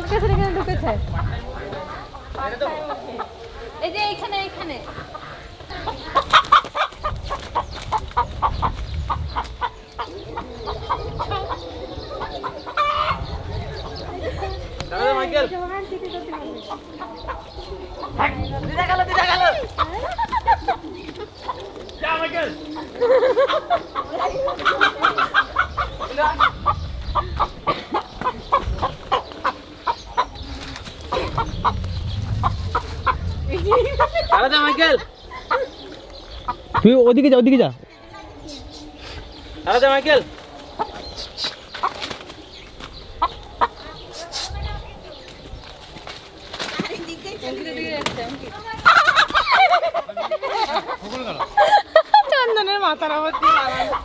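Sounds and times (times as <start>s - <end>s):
chicken clucking: 0.0s - 54.0s.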